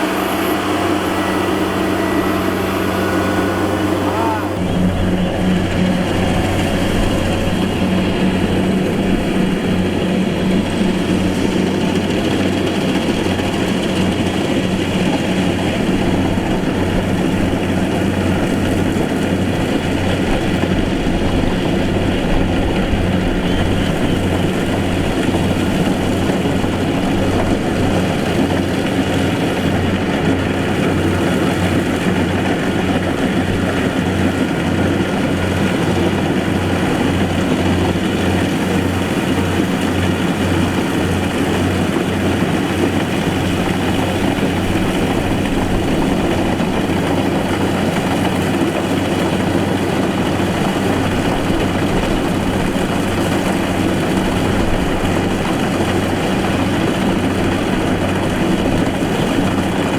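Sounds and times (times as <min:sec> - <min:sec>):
harvester engine running: 0:00.0 - 0:59.9.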